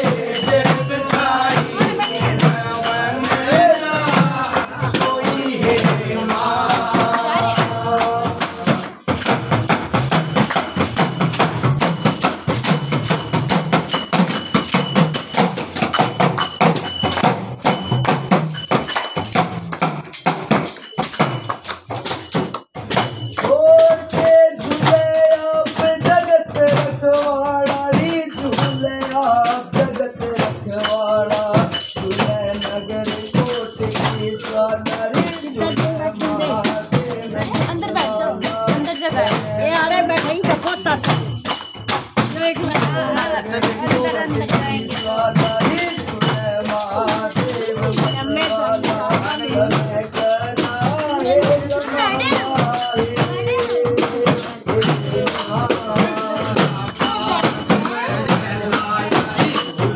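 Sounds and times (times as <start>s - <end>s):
group of voices singing: 0.0s - 19.0s, 22.8s - 59.9s
jingling hand percussion: 0.0s - 59.9s.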